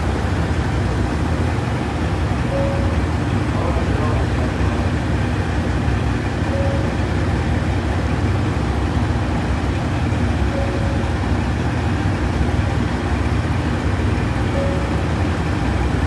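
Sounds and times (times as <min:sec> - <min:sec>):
diesel railcars idling: 0:00.0 - 0:16.0.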